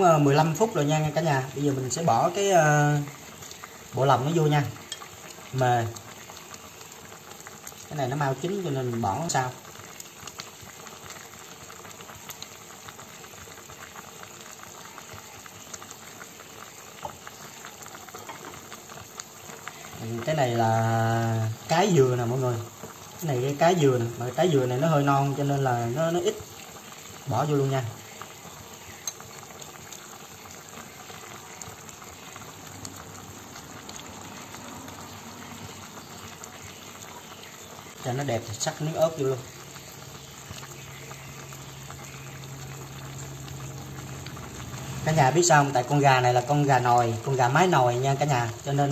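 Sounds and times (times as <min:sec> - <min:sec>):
stew bubbling and popping: 0:00.0 - 0:48.9.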